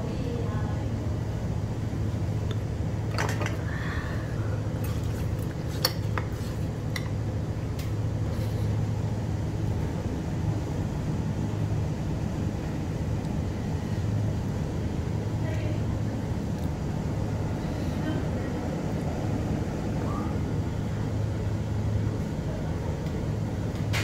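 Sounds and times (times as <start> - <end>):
low fan hum: 0.0 - 24.0.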